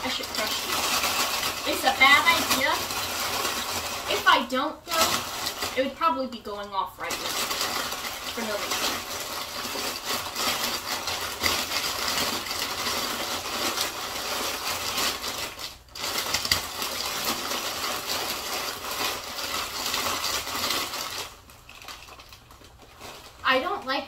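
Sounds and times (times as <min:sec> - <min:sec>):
chip bag crinkling: 0:00.0 - 0:24.0.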